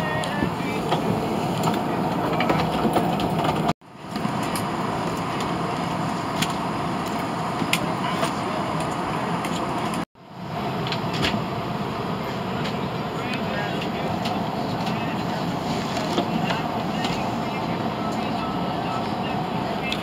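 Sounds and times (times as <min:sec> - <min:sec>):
aircraft cabin hum and air rush: 0:00.0 - 0:20.0.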